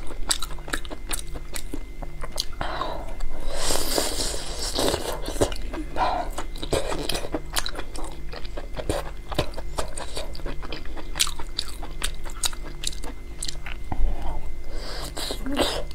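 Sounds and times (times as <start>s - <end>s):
chewing with mouth clicks: 0.0s - 14.0s.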